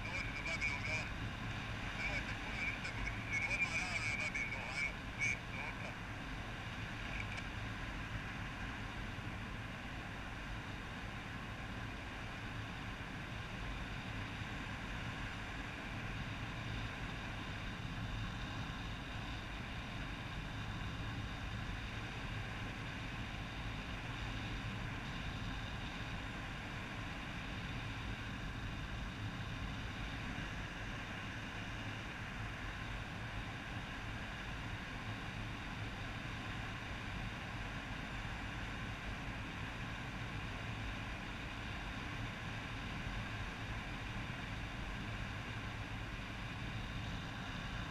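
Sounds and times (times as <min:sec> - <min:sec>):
small aircraft motor hum: 0:00.0 - 0:47.9.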